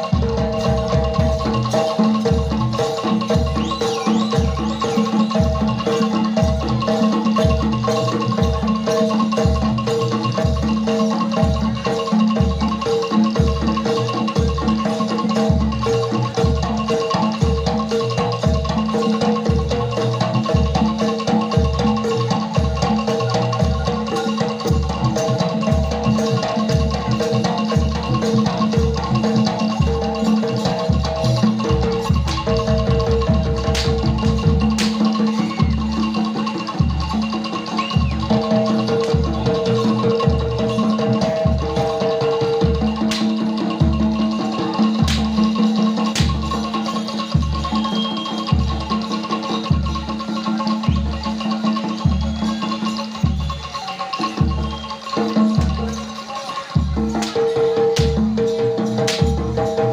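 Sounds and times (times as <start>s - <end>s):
low drum beat: 0.0s - 48.0s
struck metal mallet instruments: 0.0s - 59.9s.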